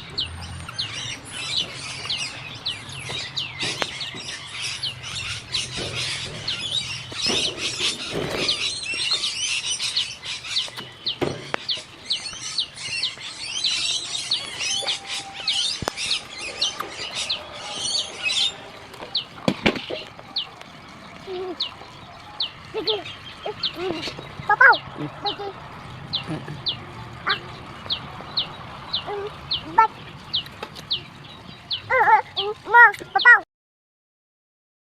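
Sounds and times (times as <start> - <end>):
parakeets chirping: 0.0 - 33.4.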